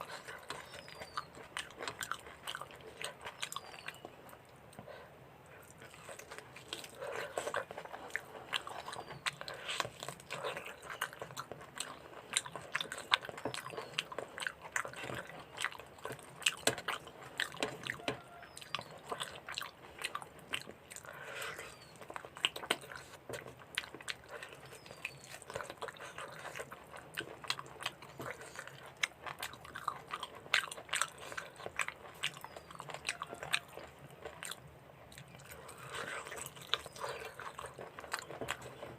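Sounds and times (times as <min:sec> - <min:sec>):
food crunching: 0:00.0 - 0:38.9
wet chewing and mouth smacks: 0:00.0 - 0:38.9.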